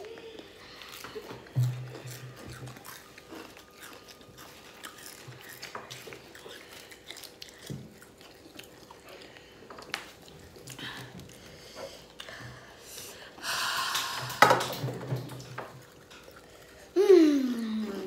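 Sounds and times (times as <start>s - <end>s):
chewing and crunching chips: 0.0s - 18.0s.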